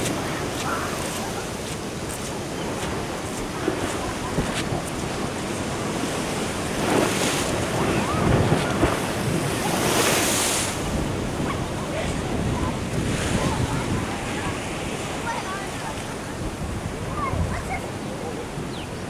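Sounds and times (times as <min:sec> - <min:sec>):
ocean waves breaking: 0:00.0 - 0:19.0
wind rumbling on microphone: 0:00.0 - 0:19.0.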